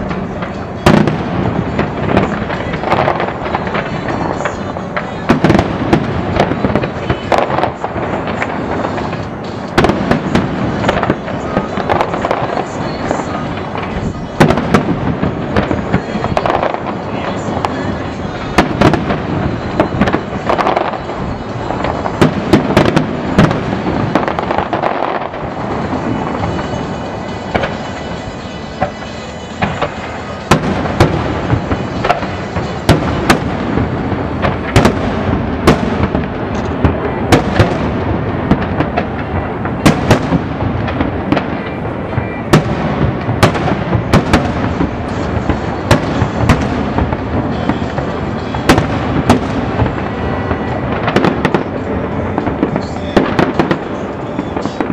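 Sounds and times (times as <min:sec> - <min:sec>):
fireworks bangs and booms: 0:00.0 - 0:54.9
fireworks crackle: 0:00.0 - 0:54.9.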